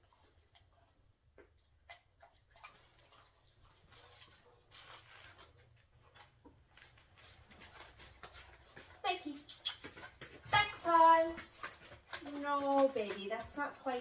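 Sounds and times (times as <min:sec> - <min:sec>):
soft rustling: 0:02.7 - 0:14.0.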